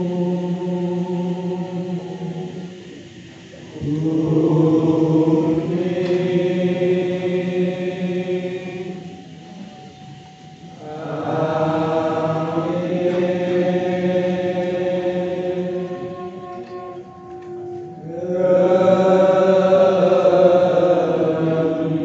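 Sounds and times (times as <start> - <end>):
low voices chanting in unison: 0.0 - 22.0.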